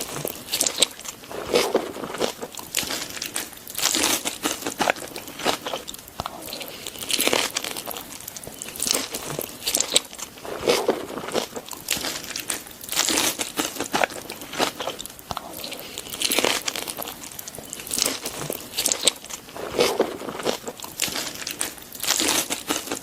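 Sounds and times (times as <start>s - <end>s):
chewing and crunching food: 0.0s - 23.0s.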